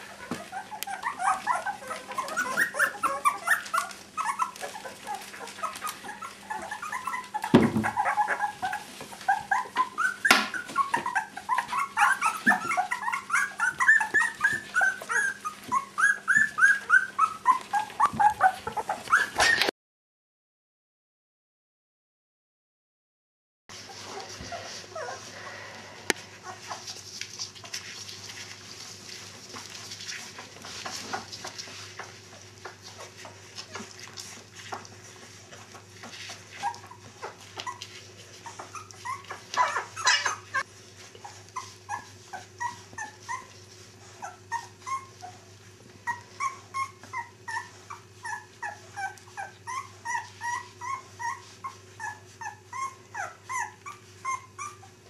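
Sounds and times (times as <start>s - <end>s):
puppies whimpering and yipping: 0.0s - 19.7s, 23.8s - 55.0s.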